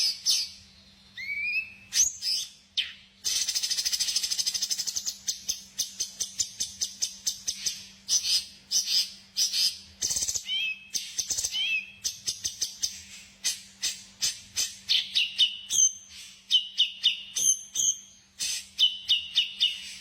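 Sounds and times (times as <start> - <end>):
curling whistled bird notes: 0.0 - 20.0
songbird chirping: 0.0 - 20.0.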